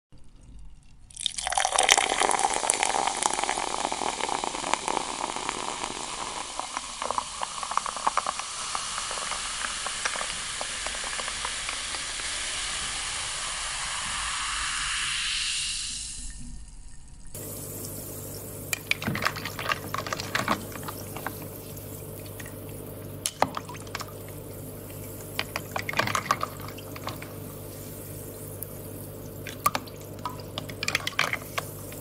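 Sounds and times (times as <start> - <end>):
water pouring into a vessel: 0.2 - 13.4, 17.3 - 32.0.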